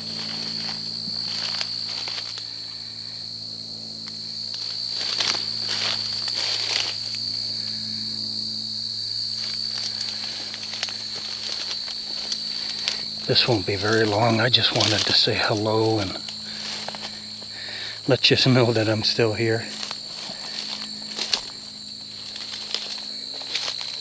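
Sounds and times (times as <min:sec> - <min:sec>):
footsteps through undergrowth: 0:00.0 - 0:24.0
insects trilling: 0:00.0 - 0:24.0.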